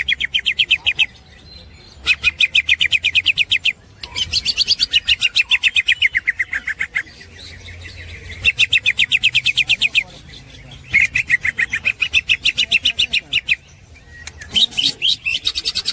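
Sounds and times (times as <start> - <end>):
bird rapid chattering song: 0.0 - 15.9.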